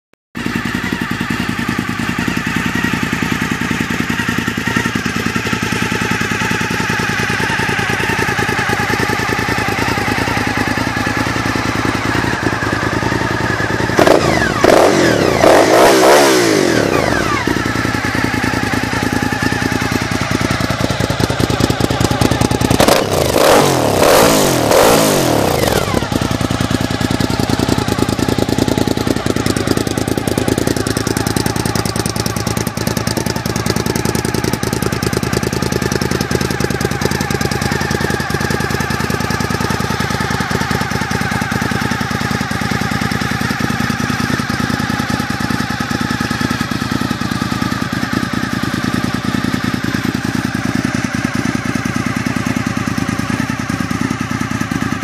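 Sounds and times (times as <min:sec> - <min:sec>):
motorcycle engine revving and idling: 0:00.4 - 0:55.0.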